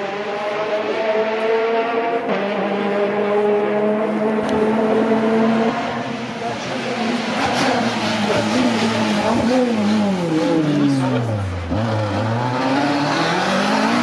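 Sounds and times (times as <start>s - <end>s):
rally car engine revving: 0.0s - 14.0s
road noise: 0.0s - 14.0s.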